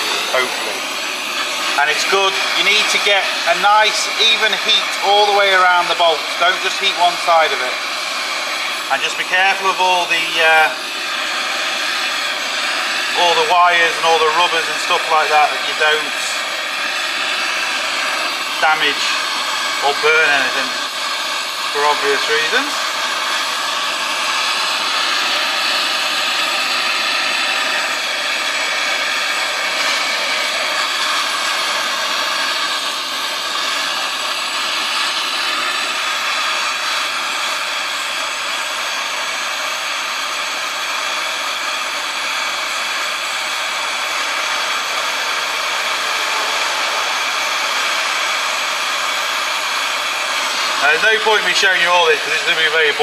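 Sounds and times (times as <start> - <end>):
blowtorch flame hissing: 0.0 - 53.0.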